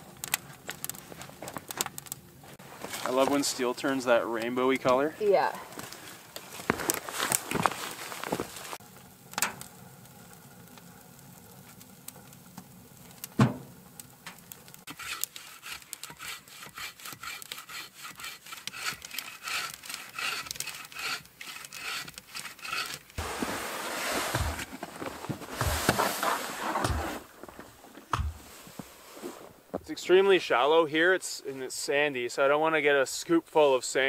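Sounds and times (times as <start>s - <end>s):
wood fire crackling and popping: 0.0s - 30.1s.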